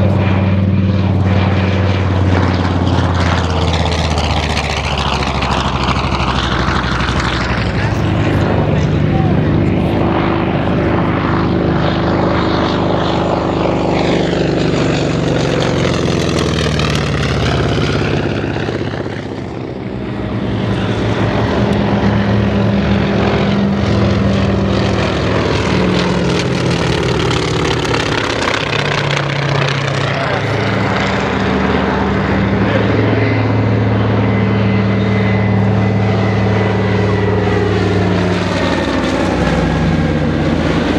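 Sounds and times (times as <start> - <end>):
propeller planes flying past: 0.0 - 40.9
twin-engined plane hum: 0.0 - 40.9.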